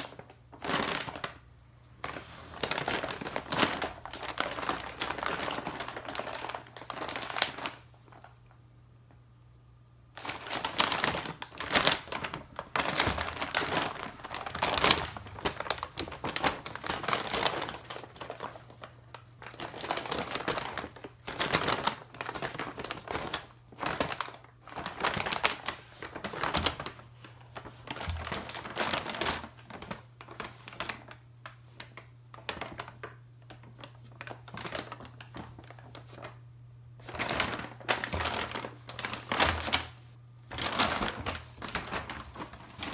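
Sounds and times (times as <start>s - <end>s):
paper bag rustling and crinkling: 0.0s - 8.5s, 10.2s - 36.4s, 37.0s - 42.9s.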